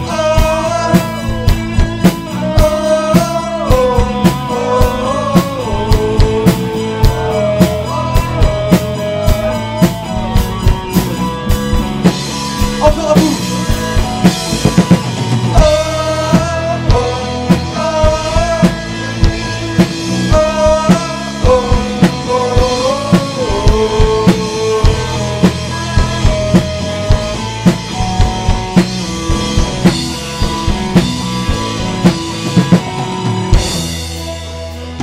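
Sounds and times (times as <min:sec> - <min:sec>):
bass and chords: 0:00.0 - 0:35.0
drum kit beat: 0:00.0 - 0:35.0
lead guitar bending notes: 0:00.0 - 0:35.0.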